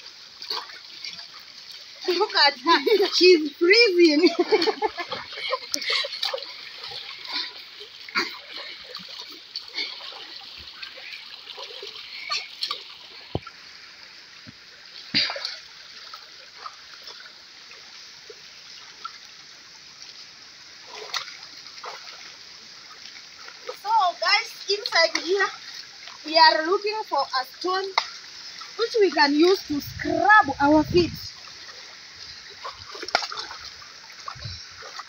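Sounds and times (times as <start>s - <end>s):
stream rushing: 0.0s - 35.0s
water splashing: 0.0s - 35.0s.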